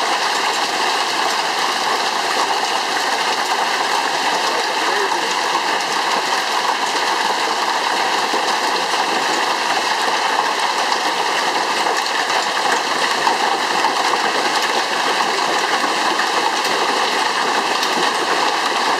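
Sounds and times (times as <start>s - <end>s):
hailstones clattering: 0.0s - 18.9s.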